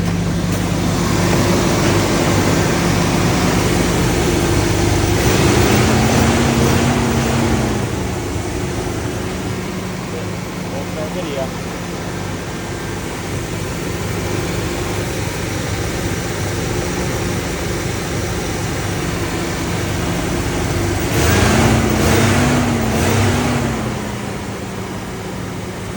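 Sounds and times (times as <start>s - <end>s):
truck engine idling: 0.0s - 25.9s.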